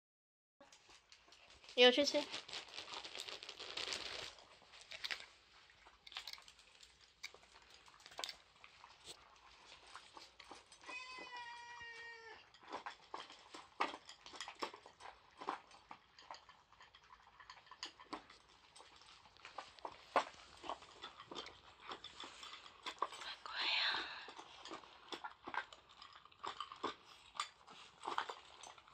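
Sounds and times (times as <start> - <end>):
dogs crunching kibble: 0.6 - 28.9.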